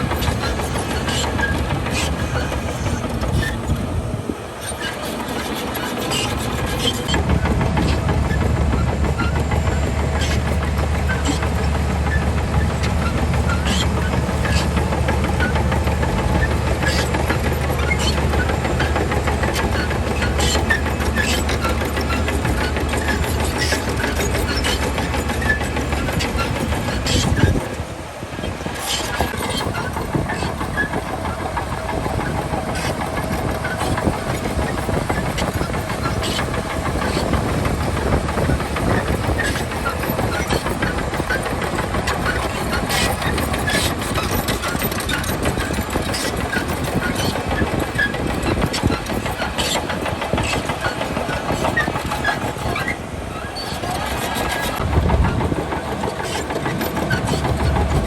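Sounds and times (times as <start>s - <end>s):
bulldozer diesel engine: 0.0s - 58.0s
metallic clanks of tracks: 0.0s - 58.0s.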